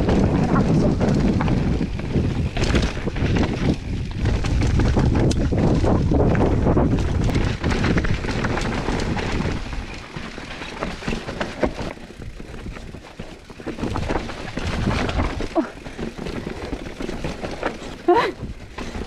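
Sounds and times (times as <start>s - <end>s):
wind buffeting microphone: 0.0s - 10.3s, 12.2s - 19.0s
bike rattling and knocking: 0.0s - 19.0s
tyres rolling over rough ground: 0.0s - 19.0s.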